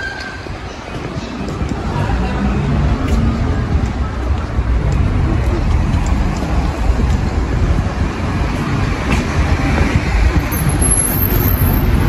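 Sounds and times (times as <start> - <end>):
faint street noise: 0.0 - 12.0
wind buffeting microphone: 0.0 - 12.0.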